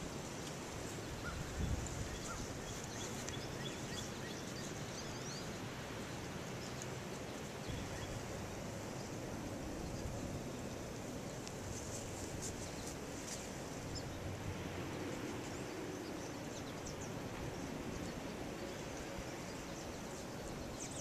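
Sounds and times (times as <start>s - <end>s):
low background rush: 0.0s - 21.0s.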